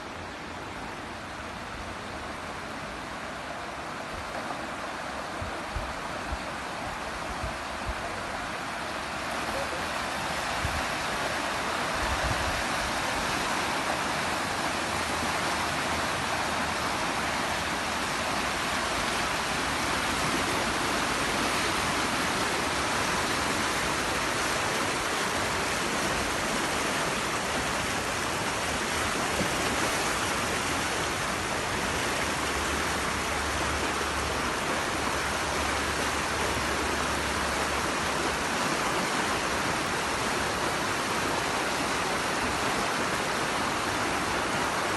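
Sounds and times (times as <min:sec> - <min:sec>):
rushing flood water: 0:00.0 - 0:44.9.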